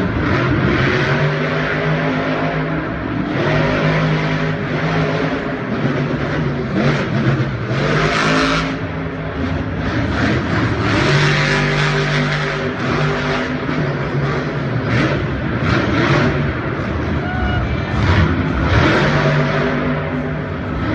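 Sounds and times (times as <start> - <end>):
racing truck engines revving: 0.0 - 20.9.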